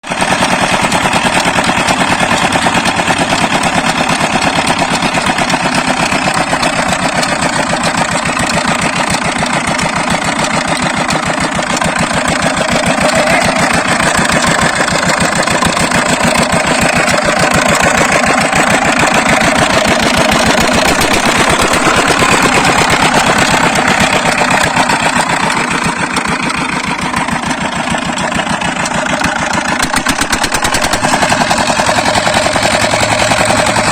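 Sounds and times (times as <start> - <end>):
diesel pump engine idling: 0.1 - 33.9.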